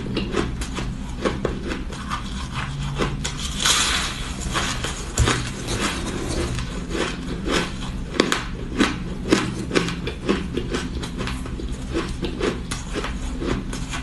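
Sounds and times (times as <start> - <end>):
ice being crunched and chewed: 0.0 - 14.0
low steady hum: 0.0 - 14.0.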